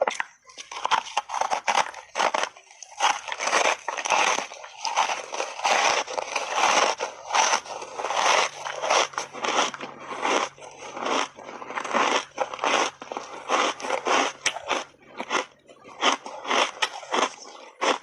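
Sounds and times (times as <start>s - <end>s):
ice being crunched and chewed: 0.0s - 18.0s.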